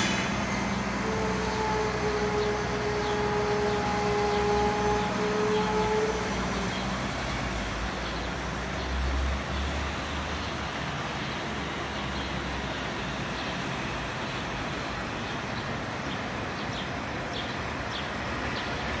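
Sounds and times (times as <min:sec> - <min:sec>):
distant traffic: 0:00.0 - 0:19.0.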